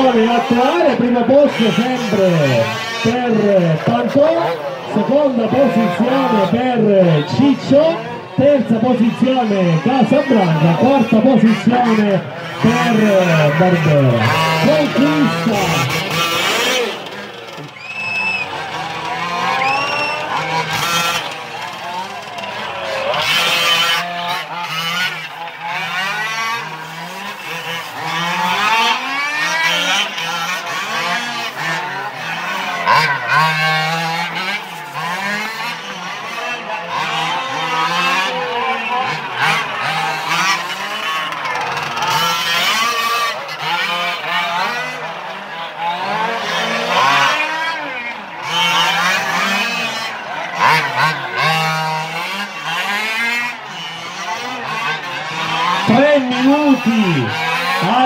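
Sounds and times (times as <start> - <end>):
rc car engines revving: 0.0 - 58.0.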